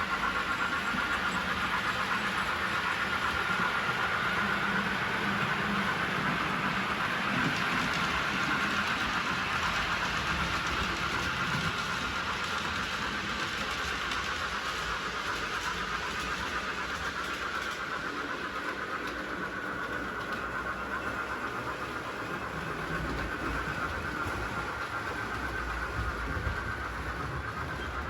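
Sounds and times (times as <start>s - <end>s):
wheels rumbling on rail: 0.0s - 28.0s.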